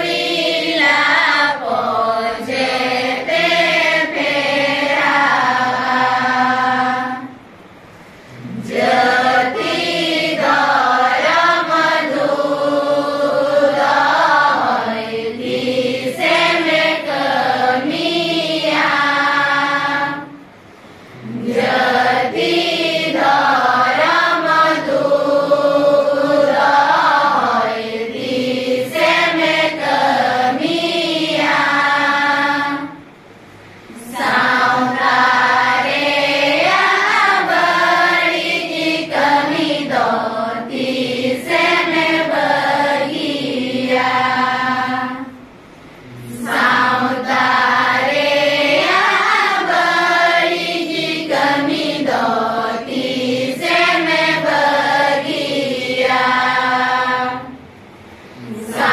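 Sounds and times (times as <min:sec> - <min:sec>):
group of women singing in unison: 0:00.0 - 0:07.4, 0:08.3 - 0:33.1, 0:33.9 - 0:57.7, 0:58.4 - 0:58.9.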